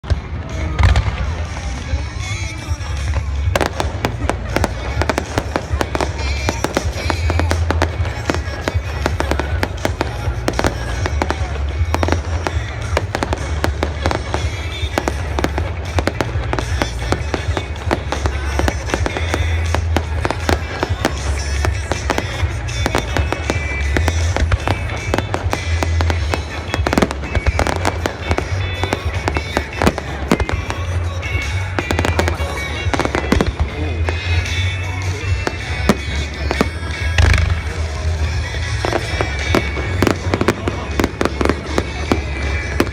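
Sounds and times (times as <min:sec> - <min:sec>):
fireworks exploding and crackling: 0:00.0 - 0:42.9
music over loudspeakers: 0:00.0 - 0:42.9.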